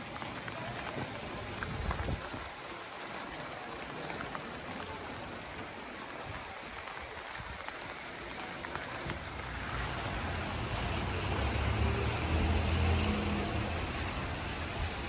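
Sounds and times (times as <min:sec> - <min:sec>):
light rain on wet pavement: 0:00.0 - 0:15.0
water drips: 0:00.0 - 0:15.0.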